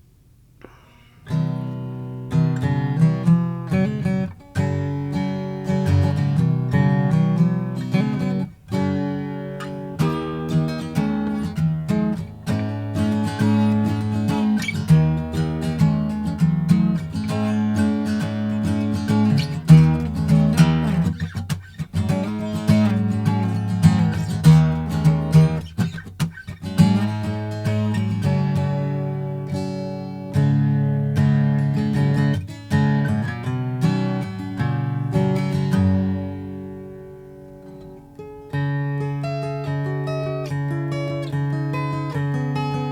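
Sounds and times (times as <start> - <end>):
acoustic guitar strummed and picked: 0.0 - 42.9.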